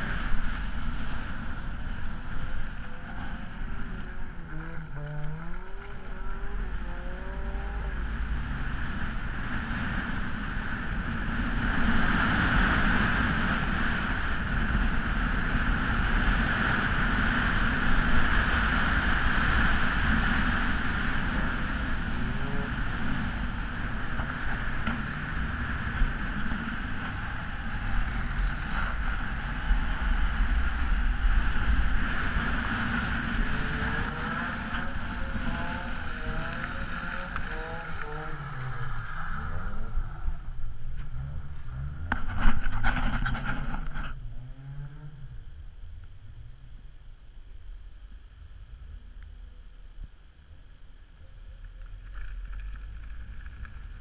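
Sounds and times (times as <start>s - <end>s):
car engine revving: 0.0s - 46.6s
wind noise on microphone: 0.0s - 46.7s.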